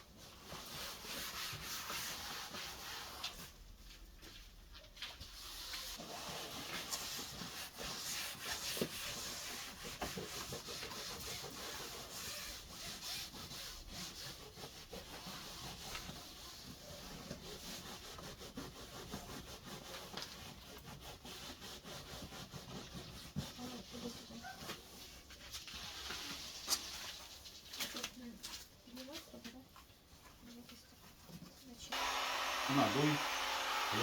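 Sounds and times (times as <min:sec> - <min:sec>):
rubbing and scraping on fabric: 0:00.1 - 0:29.7.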